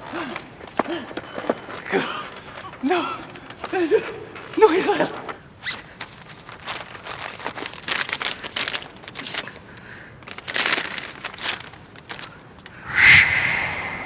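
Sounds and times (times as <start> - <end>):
rustling and crinkling handling: 1.4 - 12.8.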